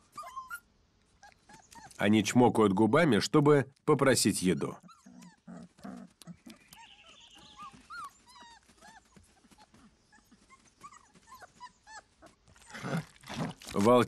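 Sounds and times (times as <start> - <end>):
wolf pups whimpering: 0.0 - 2.0, 4.4 - 13.7.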